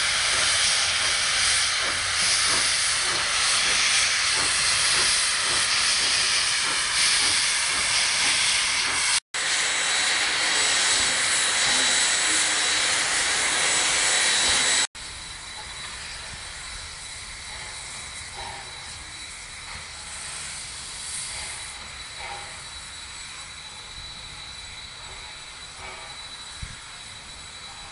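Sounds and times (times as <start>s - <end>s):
steam locomotive hissing: 0.0s - 27.9s.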